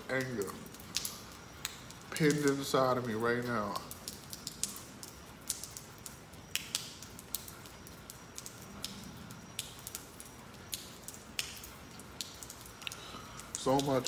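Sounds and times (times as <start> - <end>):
soft steady rain hiss: 0.0 - 14.0
water dripping taps: 0.0 - 14.0.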